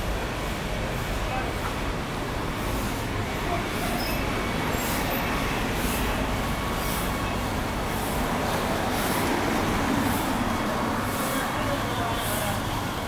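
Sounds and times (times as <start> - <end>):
hum of cars and scooters: 0.0 - 13.0.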